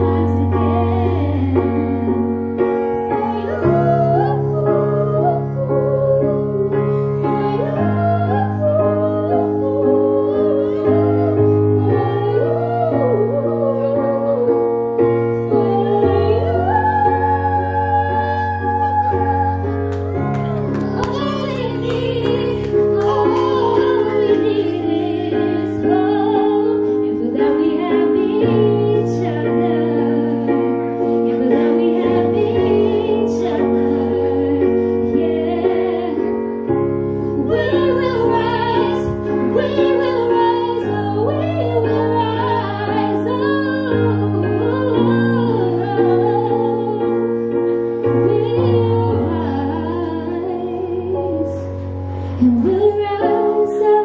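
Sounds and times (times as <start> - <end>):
keyboard chords: 0.0 - 54.0
woman singing into a microphone: 0.0 - 54.0.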